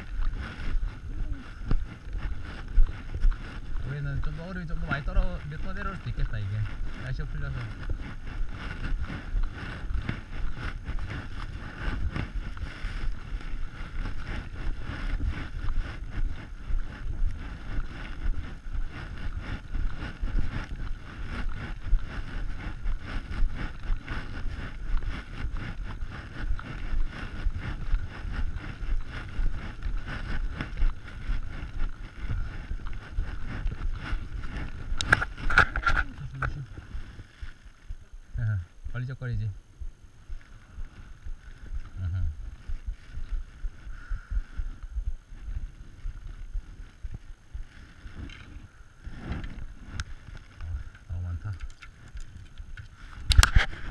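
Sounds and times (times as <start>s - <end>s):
footsteps crunching through snow: 0.0s - 53.9s
microphone rubbing: 0.0s - 53.9s
wind noise on microphone: 0.0s - 53.9s.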